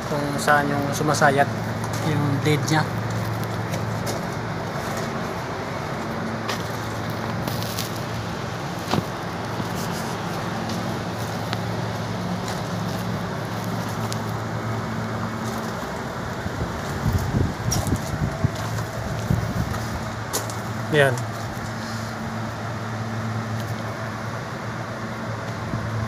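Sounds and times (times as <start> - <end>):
air conditioning machinery humming: 0.0 - 26.0.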